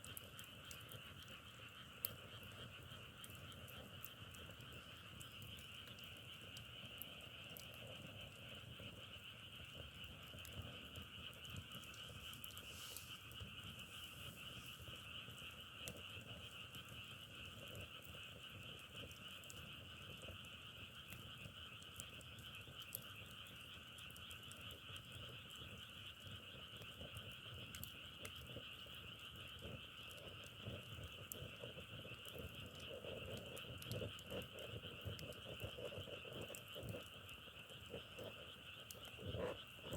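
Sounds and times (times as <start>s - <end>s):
chorus of frogs calling: 0.1s - 39.9s.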